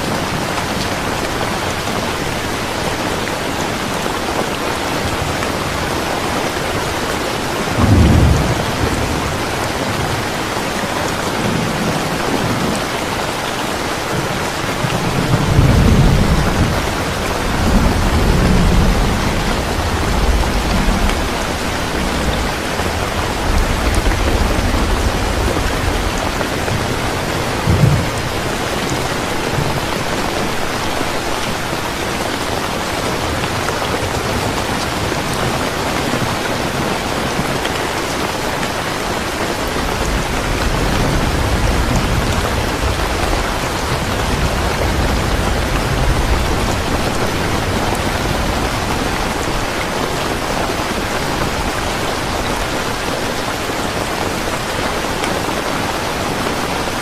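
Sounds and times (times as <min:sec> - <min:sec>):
heavy rain: 0:00.0 - 0:57.0
thunder rumbling: 0:00.1 - 0:57.0.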